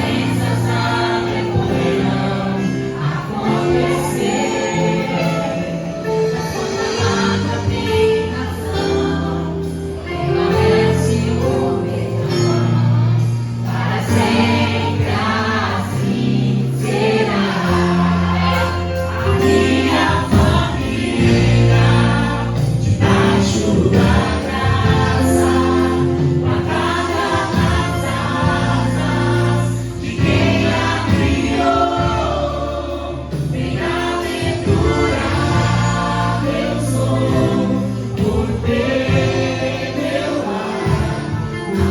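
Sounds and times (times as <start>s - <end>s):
gospel choir with band: 0.0s - 41.9s.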